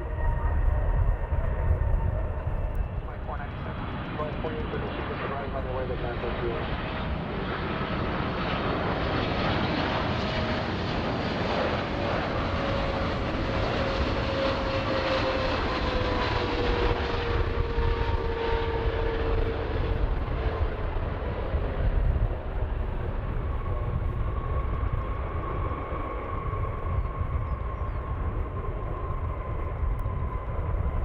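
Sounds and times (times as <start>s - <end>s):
airplane engines rumbling: 0.0s - 31.0s.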